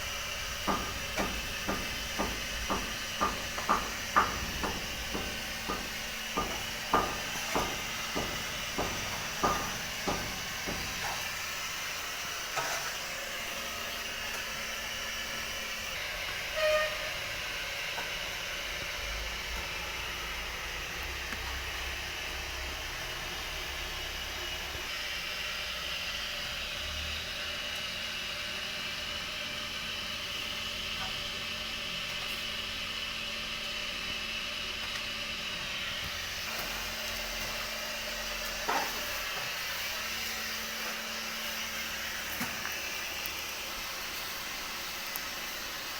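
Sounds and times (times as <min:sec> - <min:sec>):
furnace roaring hiss: 0:00.0 - 0:45.9.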